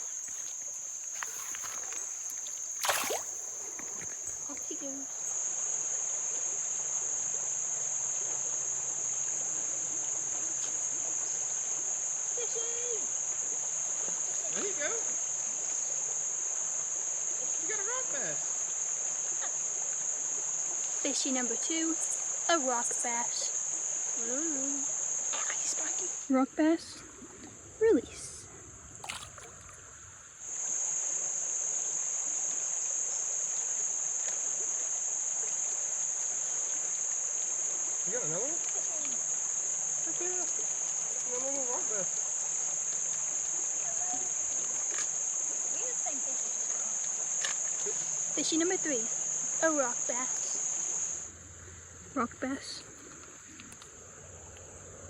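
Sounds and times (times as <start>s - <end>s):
creek water hiss: 0.0s - 55.0s
insects chirping: 0.0s - 55.0s.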